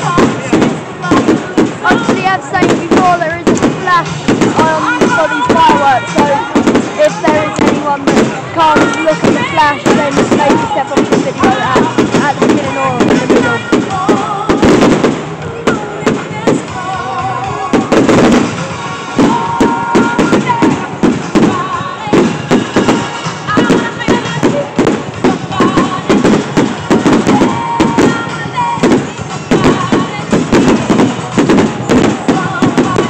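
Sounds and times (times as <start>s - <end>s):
fireworks bursting and crackling: 0.0s - 33.0s
music playing: 0.0s - 33.0s.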